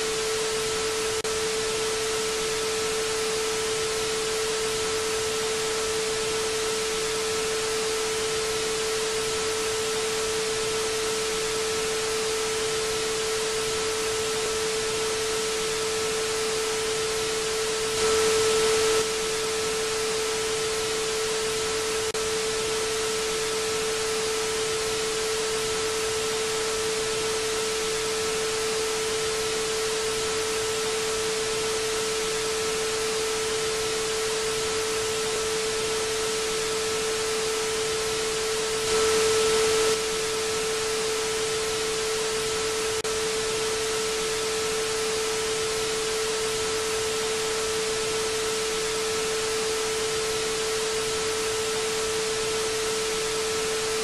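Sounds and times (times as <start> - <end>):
constant mid-pitched tone: 0.0 - 54.0
television static hiss: 0.0 - 54.0.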